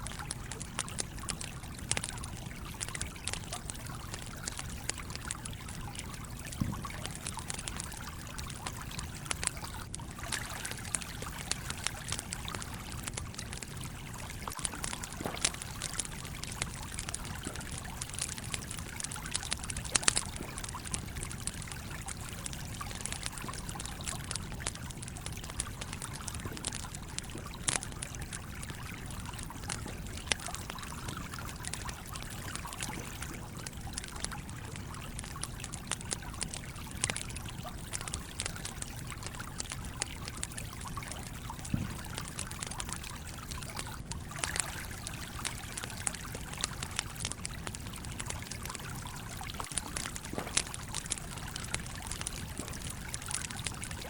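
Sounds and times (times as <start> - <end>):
campfire crackling and popping: 0.0 - 54.0
trickling stream: 0.0 - 54.0.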